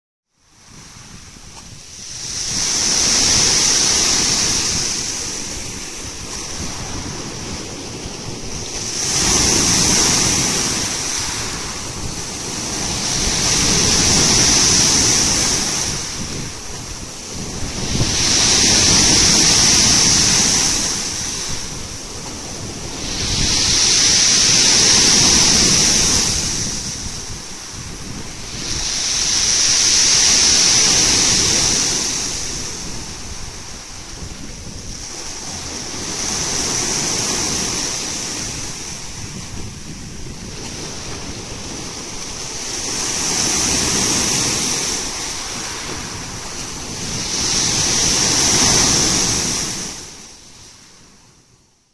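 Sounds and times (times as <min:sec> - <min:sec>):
surf breaking on shore: 0:00.6 - 0:51.2.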